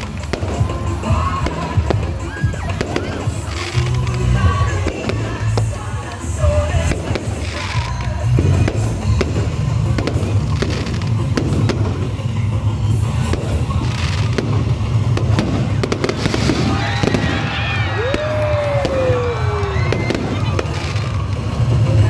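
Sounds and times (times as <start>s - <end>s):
fireworks bangs and crackles: 0.0s - 22.0s
music with heavy bass: 0.0s - 22.0s.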